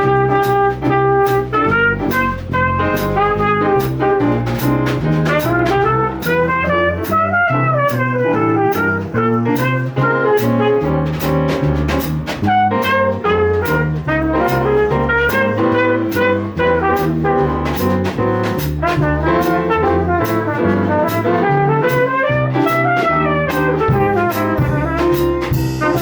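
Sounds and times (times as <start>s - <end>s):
jazz orchestra with brass: 0.0s - 26.0s.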